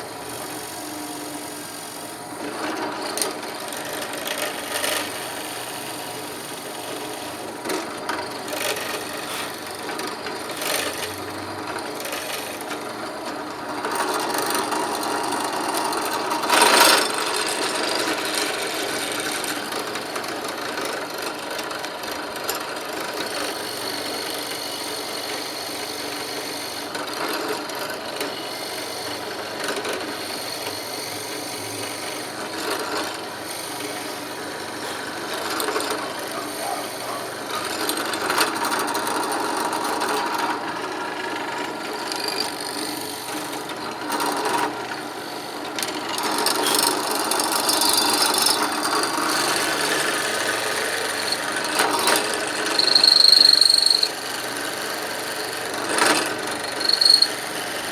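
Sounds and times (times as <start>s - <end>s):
electric drill cutting hardwood: 0.0s - 22.2s, 23.1s - 57.9s.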